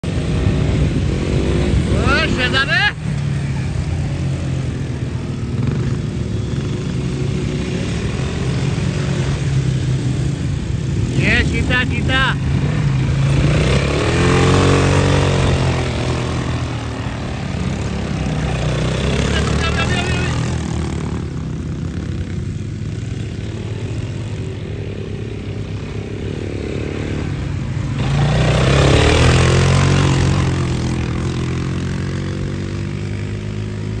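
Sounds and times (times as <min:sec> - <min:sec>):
quad bike engine revving: 0:00.0 - 0:34.0.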